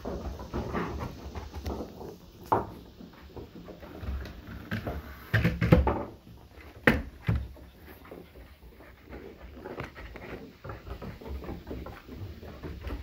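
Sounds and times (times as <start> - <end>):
knocks and thumps: 0.0 - 13.0.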